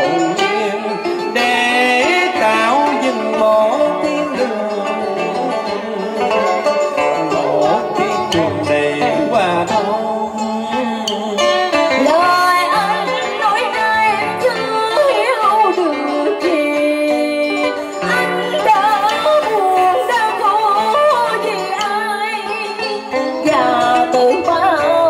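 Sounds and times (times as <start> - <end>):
plucked strings sliding notes: 0.0 - 25.0.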